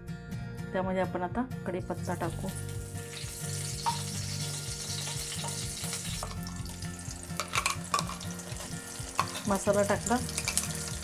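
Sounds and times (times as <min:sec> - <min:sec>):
leaves sizzling in hot oil: 0:02.2 - 0:11.0.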